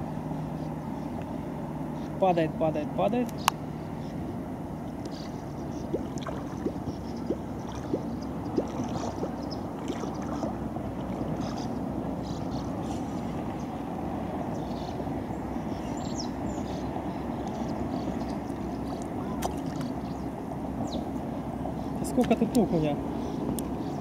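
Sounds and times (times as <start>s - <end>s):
low wind rumble: 0.0s - 24.0s
water lapping and gurgling: 3.6s - 24.0s.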